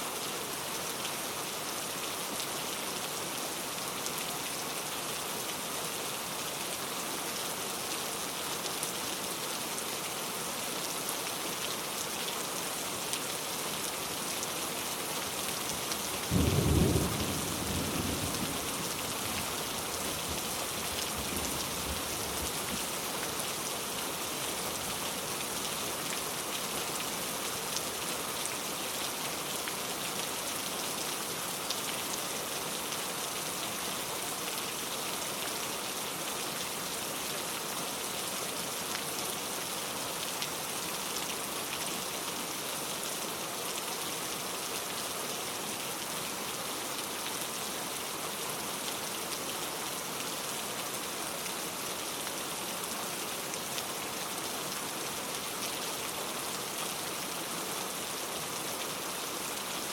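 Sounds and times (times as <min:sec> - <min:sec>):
heavy rain falling: 0:00.2 - 0:59.9.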